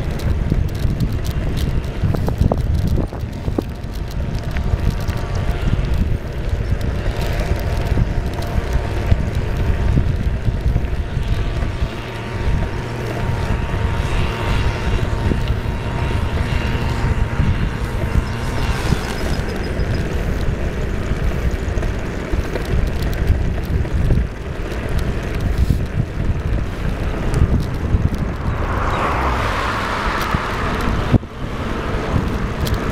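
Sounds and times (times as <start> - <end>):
faint road and vehicle noise: 0.0 - 32.9
wind buffeting microphone: 0.0 - 32.9.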